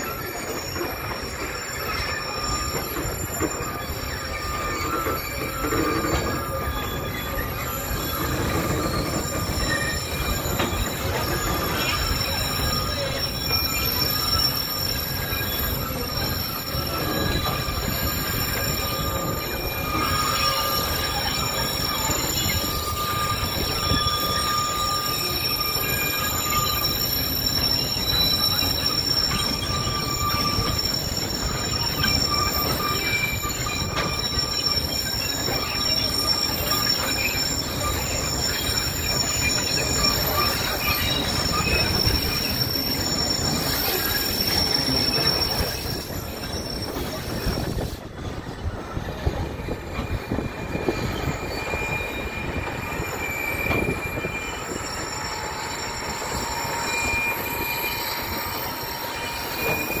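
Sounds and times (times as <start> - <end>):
train cars rumbling on track: 0.0 - 60.0
train wheels squealing: 0.0 - 60.0.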